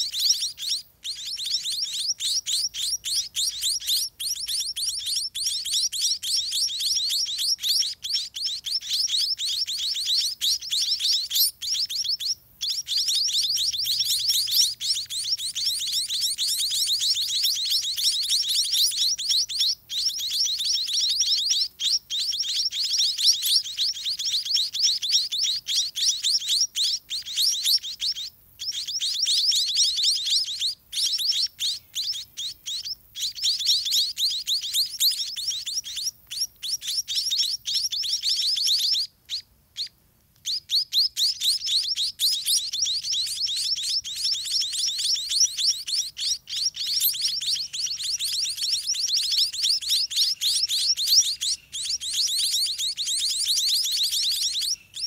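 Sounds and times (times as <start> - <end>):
nestlings chirping: 0.0 - 55.0.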